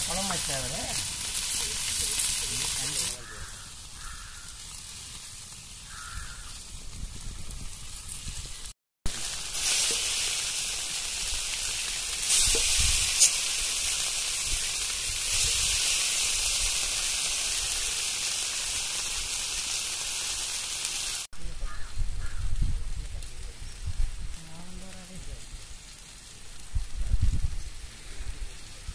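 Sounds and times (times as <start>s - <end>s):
fish sizzling in oil: 0.0s - 28.9s.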